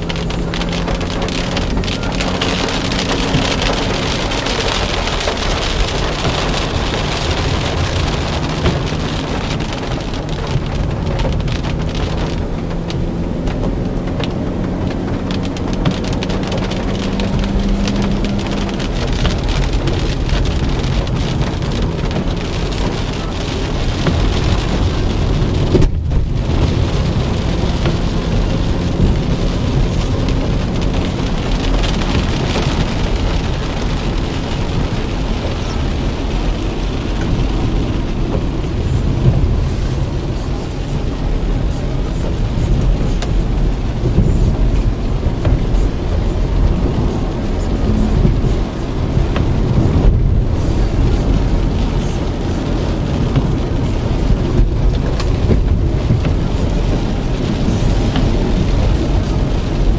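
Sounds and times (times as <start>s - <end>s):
car engine droning: 0.0s - 59.9s
tyres hissing on wet road: 0.0s - 59.9s
wind noise: 0.0s - 59.9s.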